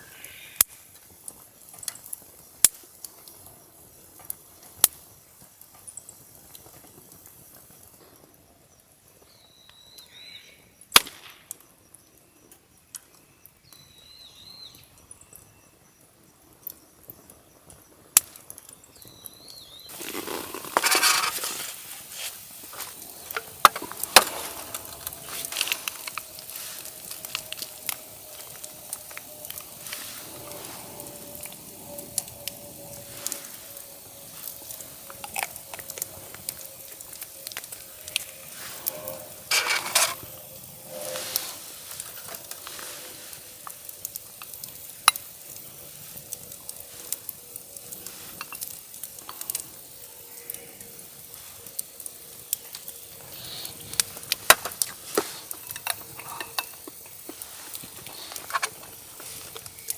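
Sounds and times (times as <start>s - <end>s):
campfire crackling and popping: 0.0s - 8.0s, 10.8s - 11.6s, 16.2s - 59.9s.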